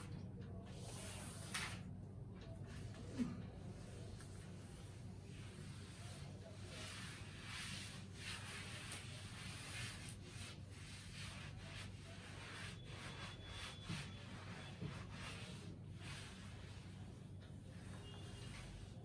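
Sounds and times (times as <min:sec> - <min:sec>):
cloth rubbing on blackboard: 0:03.7 - 0:19.0.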